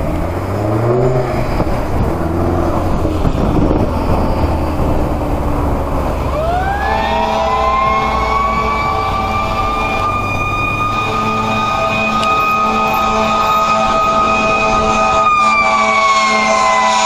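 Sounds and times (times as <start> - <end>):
road traffic passing: 0.0 - 17.0
wind on microphone: 0.0 - 17.0
fire engine siren winding up: 2.3 - 17.0.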